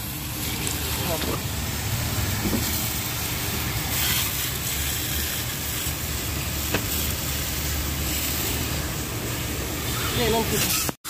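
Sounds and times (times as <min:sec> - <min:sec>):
pressure washer spray hissing: 0:00.0 - 0:11.0.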